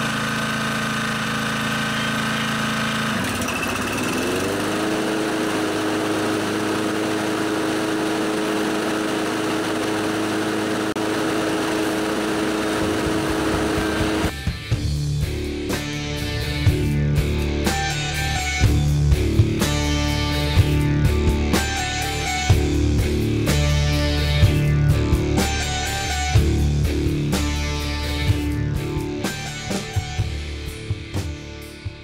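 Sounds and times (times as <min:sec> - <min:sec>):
lawn mower engine revving: 0:00.0 - 0:31.1.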